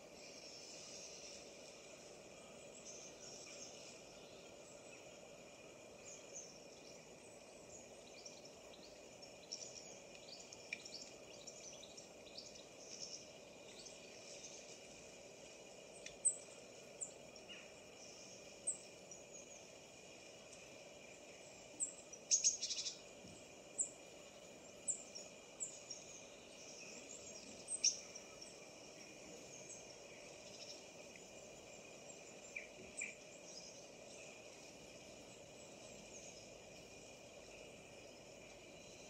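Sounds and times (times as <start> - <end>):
faint background hiss: 0.0 - 39.0
songbirds chirping: 0.0 - 39.0.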